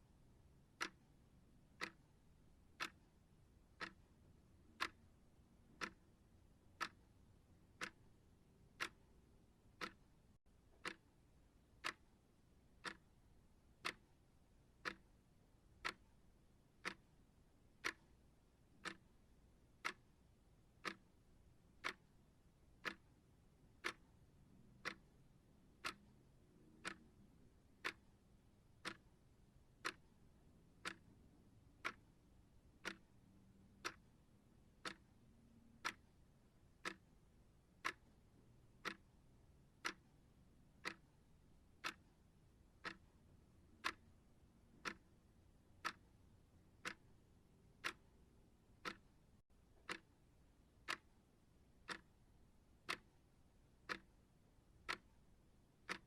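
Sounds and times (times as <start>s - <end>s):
timer ticking: 0.4s - 56.0s.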